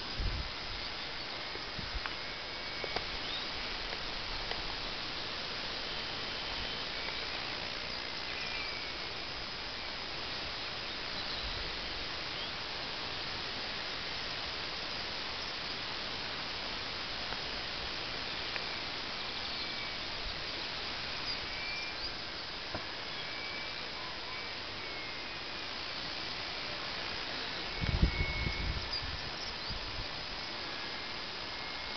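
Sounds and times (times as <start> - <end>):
outdoor background hiss: 0.0 - 31.9.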